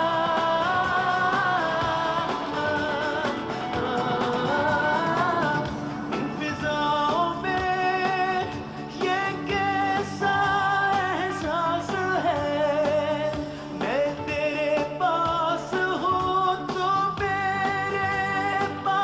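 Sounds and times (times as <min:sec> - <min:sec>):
instrumental backing: 0:00.0 - 0:19.0
person singing with vibrato: 0:00.0 - 0:19.0.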